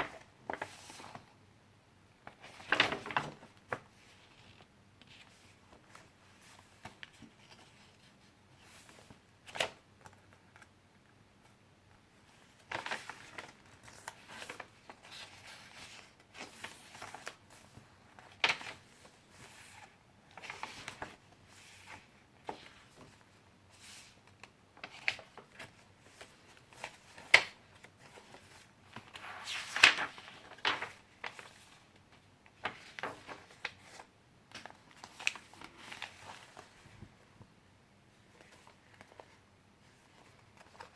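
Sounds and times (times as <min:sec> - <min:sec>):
paper pages rustling: 0:00.0 - 0:01.2, 0:02.2 - 0:10.7, 0:12.4 - 0:37.1, 0:38.3 - 0:40.9.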